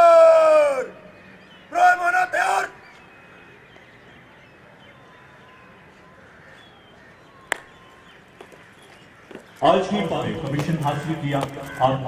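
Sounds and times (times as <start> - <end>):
faint bird calls: 0.0 - 12.0.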